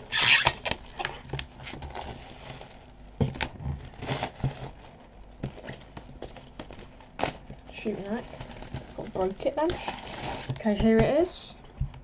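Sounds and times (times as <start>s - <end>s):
plastic shrink-wrap crinkling: 0.0s - 10.6s.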